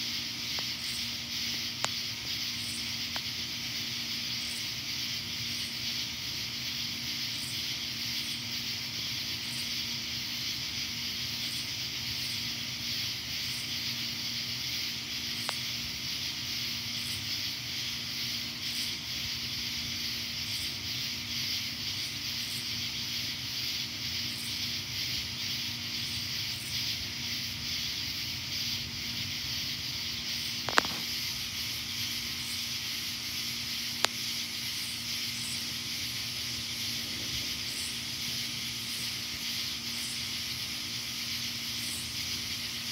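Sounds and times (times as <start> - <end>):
high-pitched hiss: 0.0 - 42.9
low steady hum: 0.0 - 42.9.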